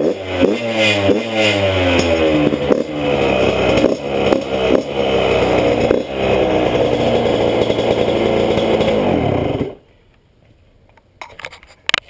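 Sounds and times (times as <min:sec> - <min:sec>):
dirt bike engine running: 0:00.0 - 0:09.8.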